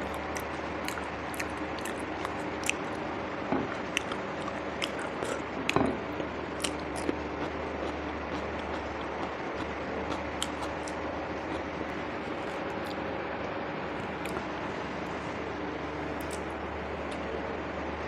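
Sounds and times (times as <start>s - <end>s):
person chewing food: 0.0s - 13.1s, 13.9s - 14.5s, 16.0s - 17.2s
low background hum: 0.0s - 18.0s.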